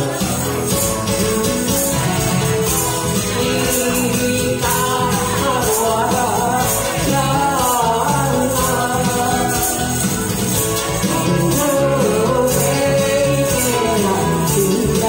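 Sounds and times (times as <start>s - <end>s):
karaoke backing track: 0.0s - 15.0s
man singing into microphone: 0.0s - 15.0s
tambourine jingling: 0.0s - 15.0s.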